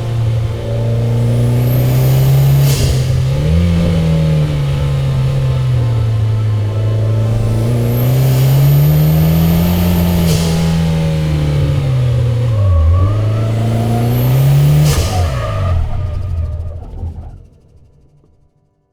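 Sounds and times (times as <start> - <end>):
turbo whine: 0.0 - 18.1
car engine revving: 0.0 - 18.3.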